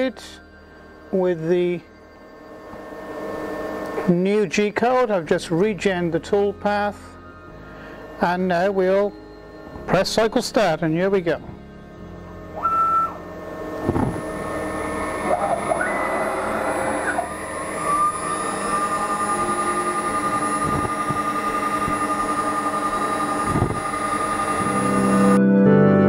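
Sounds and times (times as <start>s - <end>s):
router spindle and motors whining: 0.0s - 25.4s.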